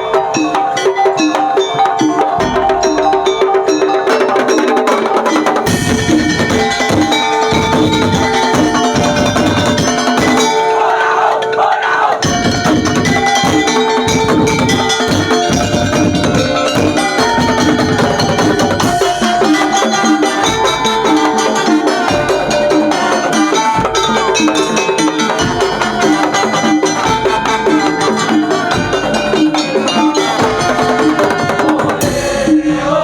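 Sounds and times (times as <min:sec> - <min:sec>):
ringing pitched metal tones: 0:00.0 - 0:33.0
wooden slit drums and drums: 0:00.0 - 0:33.0.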